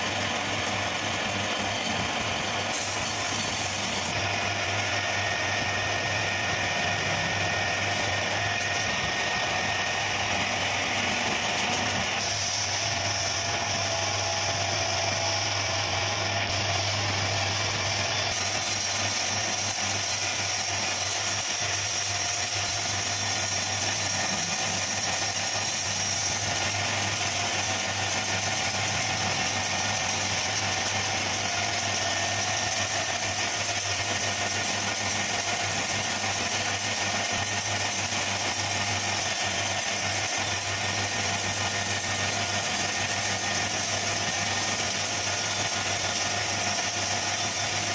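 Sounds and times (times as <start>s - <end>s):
wood lathe humming: 0.0s - 47.9s.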